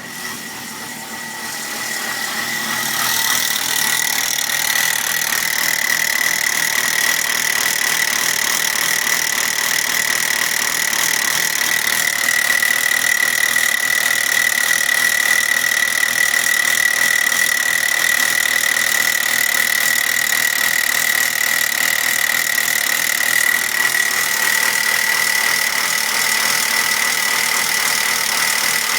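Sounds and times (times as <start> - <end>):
diesel engine idling roughly: 0.0 - 28.9.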